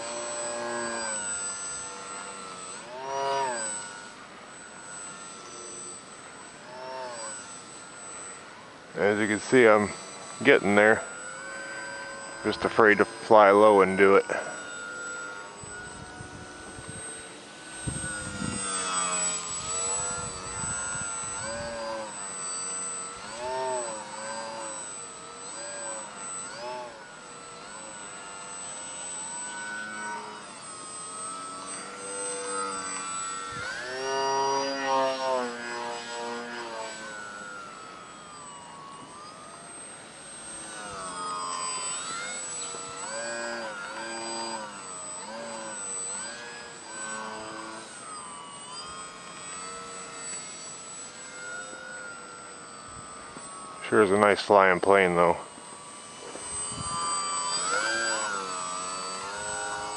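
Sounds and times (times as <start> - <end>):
model plane motor whining: 0.0 - 59.9.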